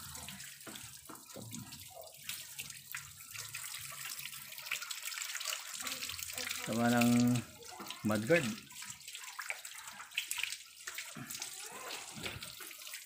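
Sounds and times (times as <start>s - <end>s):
water running from a hose: 0.0s - 13.0s.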